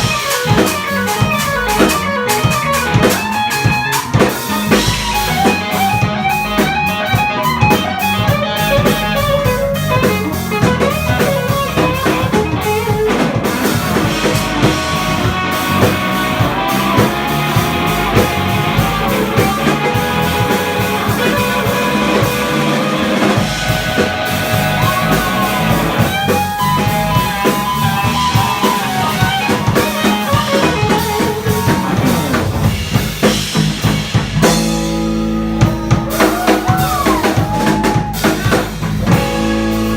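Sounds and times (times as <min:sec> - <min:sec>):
bass: 0:00.0 - 0:39.9
drum kit: 0:00.0 - 0:39.9
guitar lines: 0:00.0 - 0:39.9
piano: 0:00.0 - 0:39.9.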